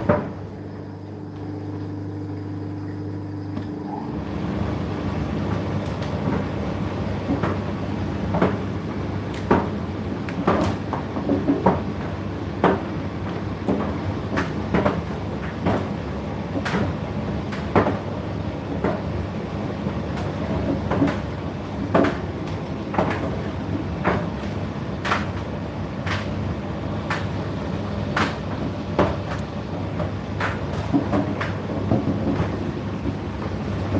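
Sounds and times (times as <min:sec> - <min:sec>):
tumble dryer motor hum: 0:00.0 - 0:33.9.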